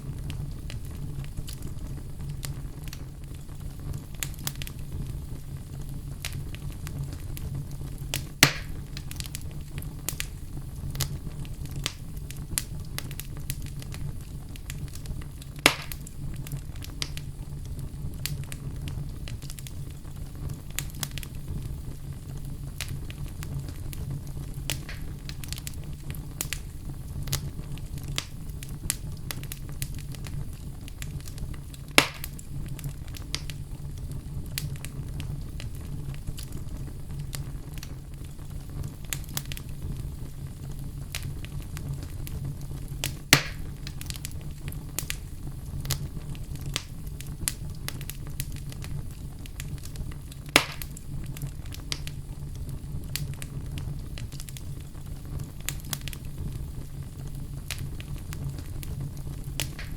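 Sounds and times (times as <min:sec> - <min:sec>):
loud fire pops: 0:00.0 - 0:59.9
low steady rumble: 0:00.0 - 0:59.9
wood fire crackling: 0:00.0 - 0:59.9.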